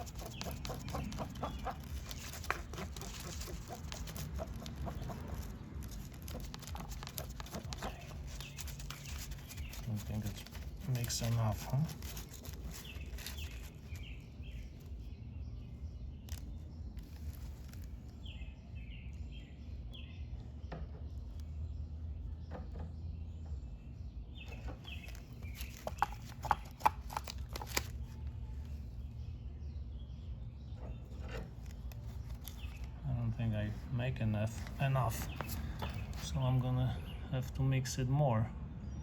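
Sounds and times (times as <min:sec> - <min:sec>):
small birds chirping: 0:00.0 - 0:39.0
steady low hum: 0:00.0 - 0:39.0.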